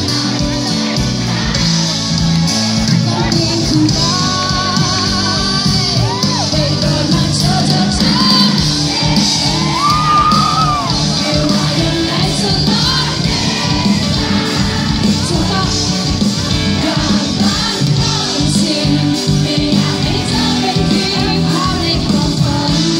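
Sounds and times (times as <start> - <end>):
crowd shouting and whooping: 0.0 - 22.0
live band with singing: 0.0 - 22.9.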